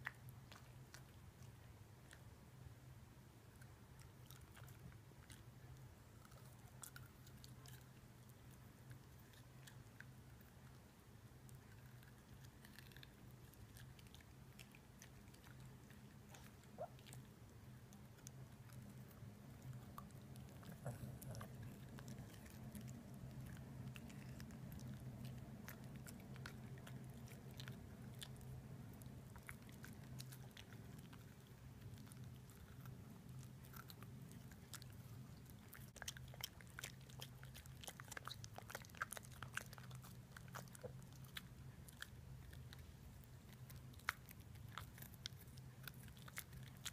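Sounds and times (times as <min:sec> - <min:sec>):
dog chewing carrot: 0:00.0 - 0:02.2, 0:03.5 - 0:46.9
steady low hum: 0:00.0 - 0:46.9.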